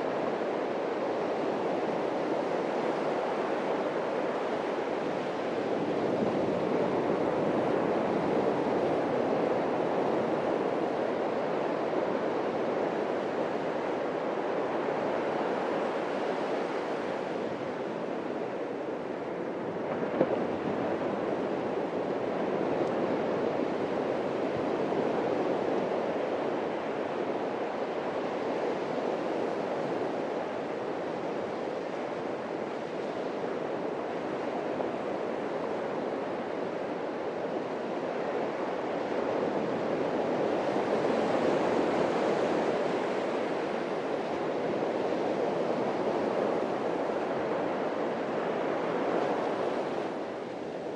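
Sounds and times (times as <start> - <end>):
ocean waves breaking on beach: 0.0 - 50.9.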